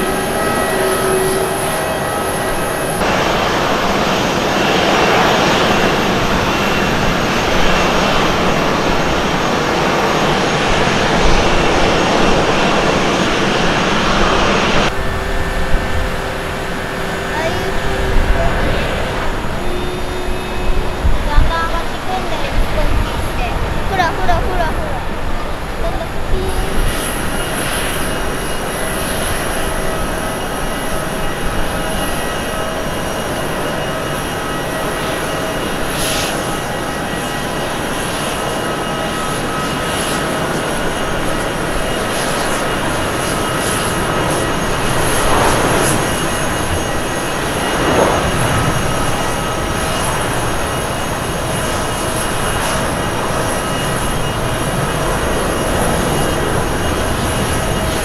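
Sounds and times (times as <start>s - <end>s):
jet engines at takeoff power: 0.0s - 58.0s.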